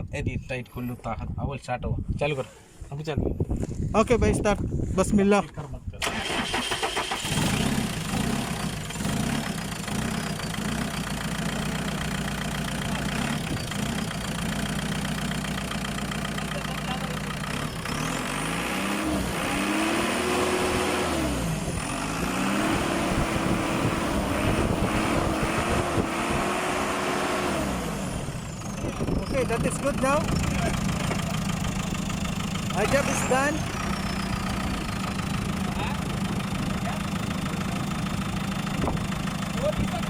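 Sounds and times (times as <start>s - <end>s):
diesel engine idling and revving: 6.0s - 40.0s.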